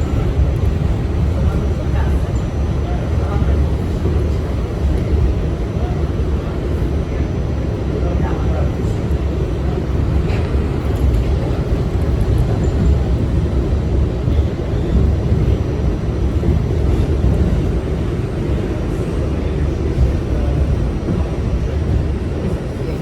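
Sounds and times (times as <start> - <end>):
subway car rumble: 0.0 - 23.0.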